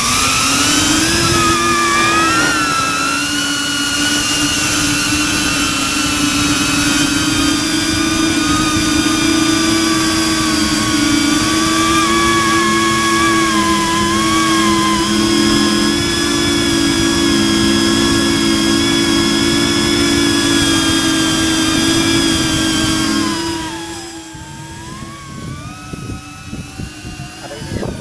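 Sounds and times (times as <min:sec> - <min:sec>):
drone propellers whining: 0:00.0 - 0:28.0.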